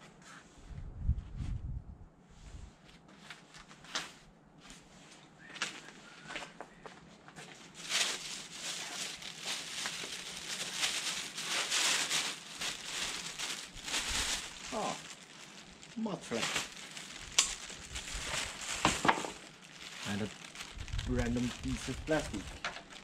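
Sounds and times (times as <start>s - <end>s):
plastic bag rustling and crinkling: 3.1s - 23.0s.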